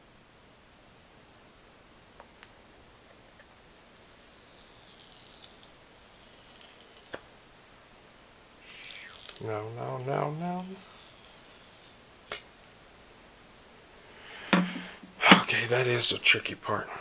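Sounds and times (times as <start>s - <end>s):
soft hissing rustle: 0.0s - 17.0s.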